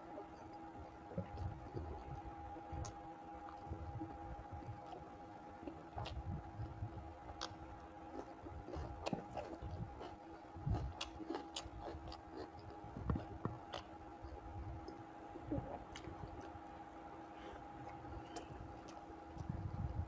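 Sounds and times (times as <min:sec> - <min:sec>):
man chewing food: 0:00.0 - 0:20.0.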